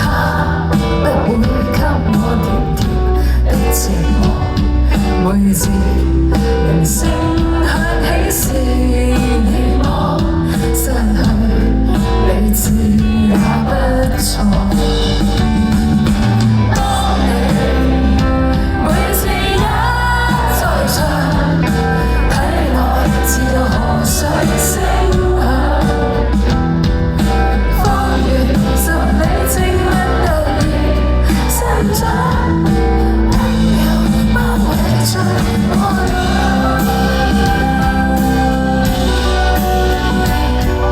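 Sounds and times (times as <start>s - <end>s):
person singing: 0.0s - 15.6s, 16.6s - 26.6s, 27.2s - 40.9s
live indie pop band: 0.0s - 40.9s.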